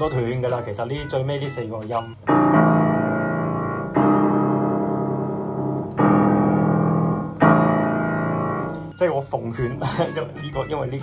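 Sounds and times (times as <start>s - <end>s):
piano notes ringing: 0.0s - 11.0s.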